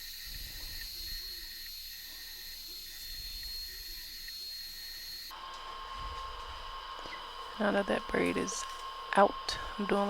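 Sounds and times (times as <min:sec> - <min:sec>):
faint high whines: 0:00.0 - 0:10.0.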